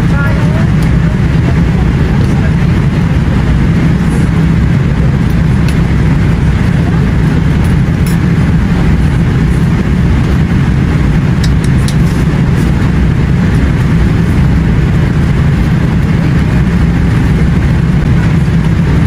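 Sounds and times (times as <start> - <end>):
jet cabin engine rush: 0.0 - 19.0.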